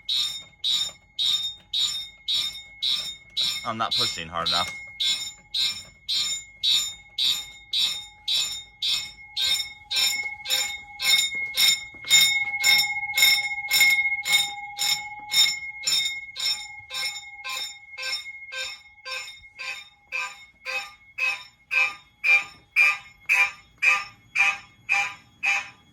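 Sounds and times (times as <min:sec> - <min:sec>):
pulsing fire alarm horns and bell: 0:00.0 - 0:25.9
steady alarm tone: 0:00.0 - 0:25.9.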